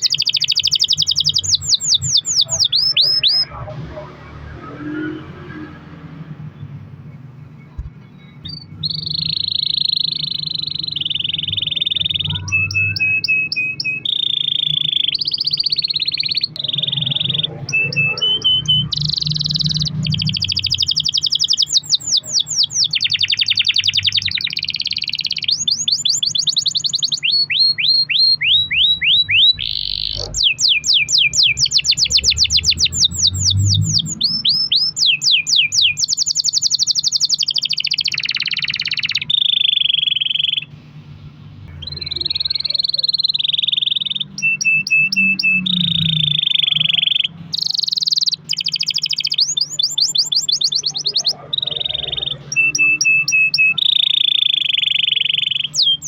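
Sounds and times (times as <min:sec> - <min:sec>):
canary singing trills: 0:00.0 - 0:40.8, 0:41.4 - 0:56.0.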